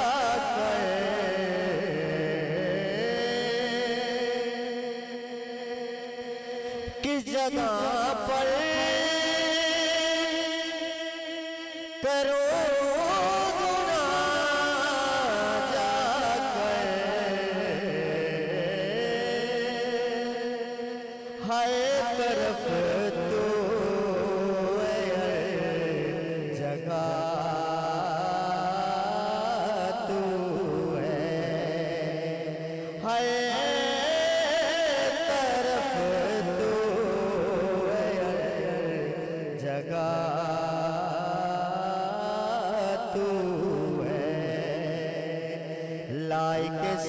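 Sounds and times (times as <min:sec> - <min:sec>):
man singing into a microphone: 0:00.0 - 0:47.0.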